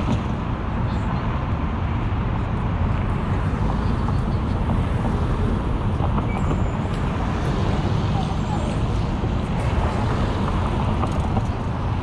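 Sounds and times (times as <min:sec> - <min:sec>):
streetcar rumbling on track: 0:00.0 - 0:12.0.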